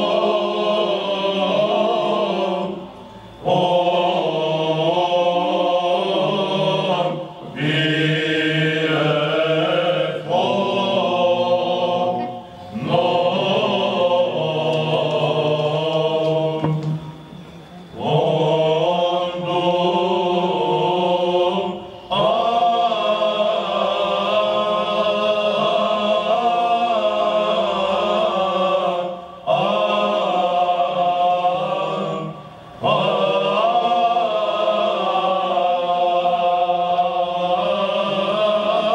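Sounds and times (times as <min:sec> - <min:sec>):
men's choir chanting: 0:00.0 - 0:38.9.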